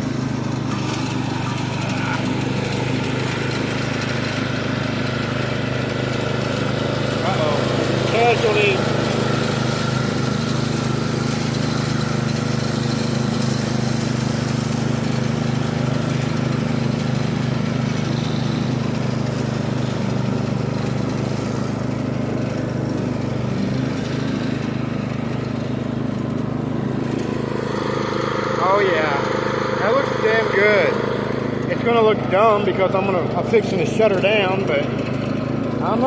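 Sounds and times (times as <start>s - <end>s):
riding lawn mower cutting grass: 0.0s - 36.0s.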